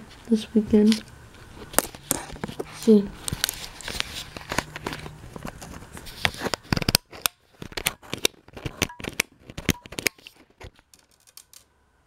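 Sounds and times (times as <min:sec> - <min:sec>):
low steady hum: 0:00.0 - 0:12.0
clicks taps and rustles of handling: 0:01.7 - 0:11.6.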